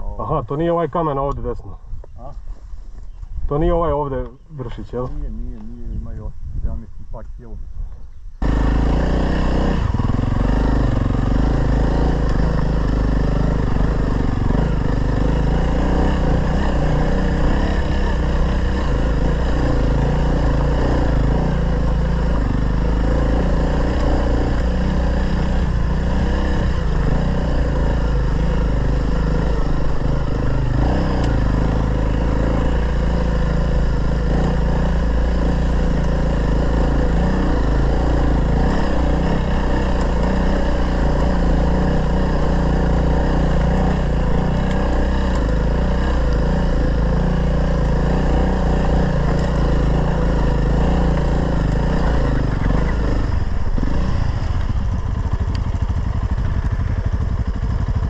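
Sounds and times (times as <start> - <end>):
motorcycle engine under load: 8.4 - 58.0.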